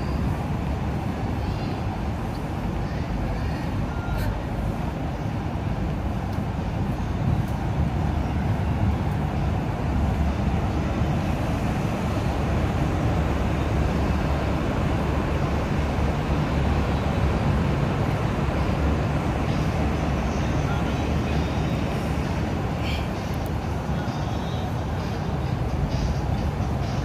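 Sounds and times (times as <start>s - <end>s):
bus engines: 0.0s - 27.0s
road traffic rumble: 0.0s - 27.0s.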